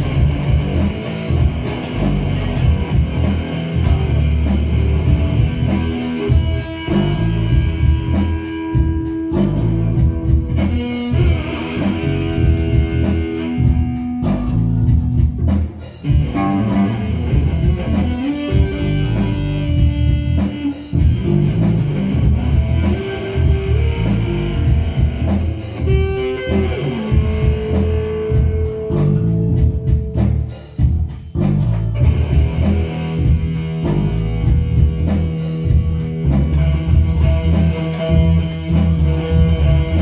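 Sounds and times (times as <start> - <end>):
electric guitar and bass rock riff: 0.0 - 40.0.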